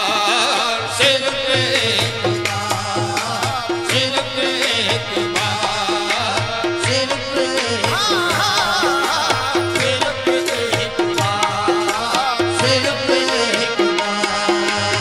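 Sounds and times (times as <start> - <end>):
person singing: 0.0 - 15.0
tabla beat: 0.0 - 15.0.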